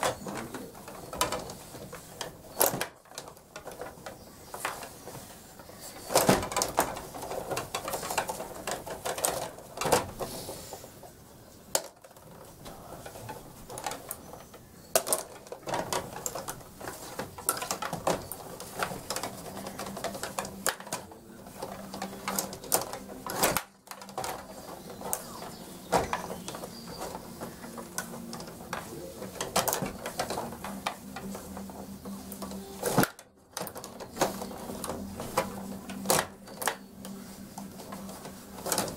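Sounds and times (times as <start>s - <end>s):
table hockey rods clattering: 0.0s - 38.9s.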